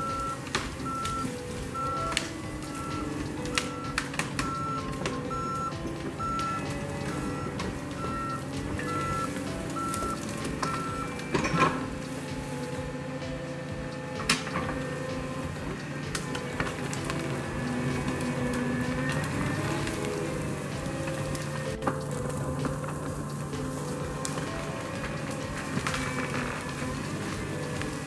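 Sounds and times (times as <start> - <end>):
backup alarm beeping: 0.0 - 22.8
brush cracking and snapping: 0.0 - 28.0
diesel engine running: 0.0 - 28.0.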